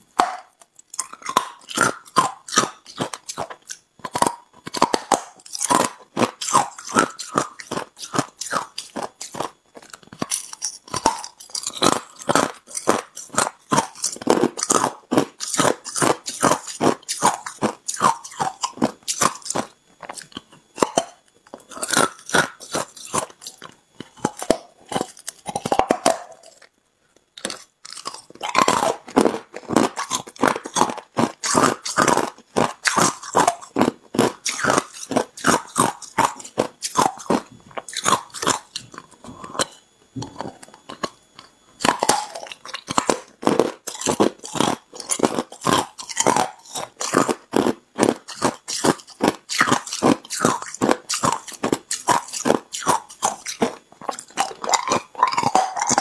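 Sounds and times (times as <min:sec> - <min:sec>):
ice crunching while chewed: 0:00.1 - 0:56.0.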